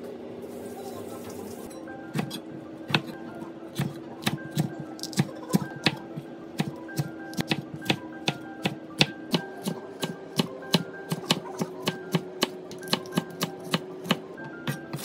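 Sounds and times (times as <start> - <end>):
soft background music: 0.9 - 15.0
knife chopping on wooden board: 2.1 - 3.2, 3.8 - 15.0.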